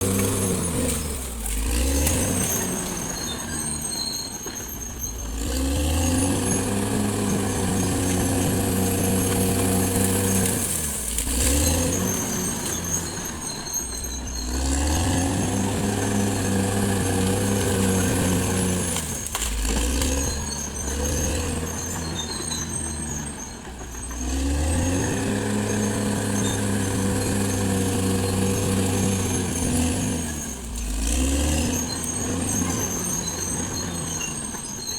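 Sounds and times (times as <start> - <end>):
bulldozer diesel engine revving: 0.0 - 34.9.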